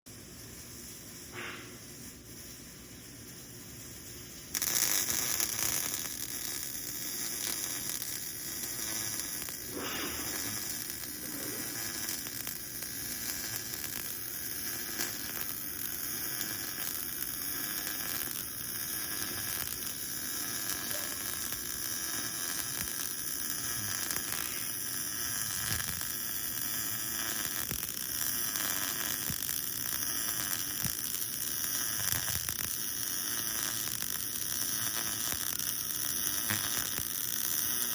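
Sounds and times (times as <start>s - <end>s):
welding arc sizzling hiss: 0.1s - 37.9s.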